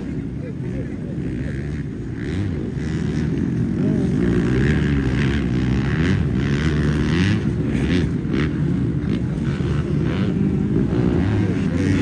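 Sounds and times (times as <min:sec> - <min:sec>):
motocross bike engines: 0:00.0 - 0:12.0.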